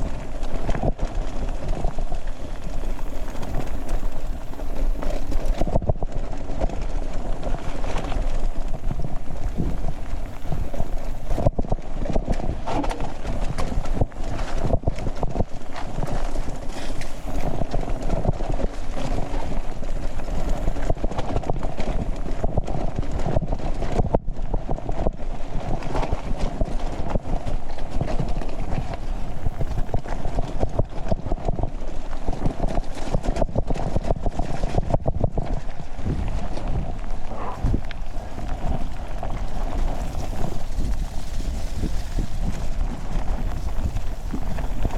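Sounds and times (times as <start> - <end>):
mountain bike rattling downhill: 0.0 - 44.9.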